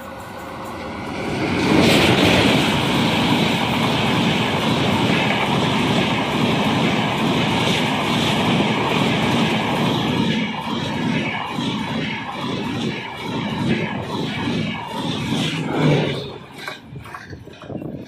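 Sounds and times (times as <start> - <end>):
locomotive passing: 0.0 - 18.0
train coaches rumbling on bridge: 0.0 - 18.0.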